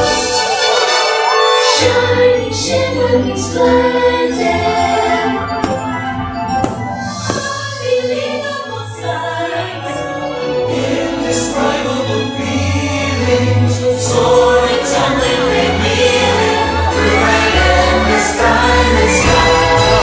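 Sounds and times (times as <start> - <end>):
choir singing: 0.0 - 20.0
orchestral music: 0.0 - 20.0.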